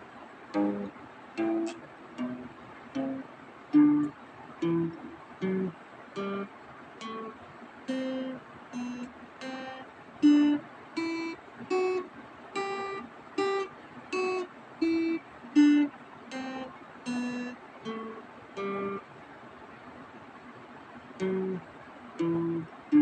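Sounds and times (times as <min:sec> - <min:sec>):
acoustic guitar plucked notes: 0:00.0 - 0:19.1, 0:21.1 - 0:23.0.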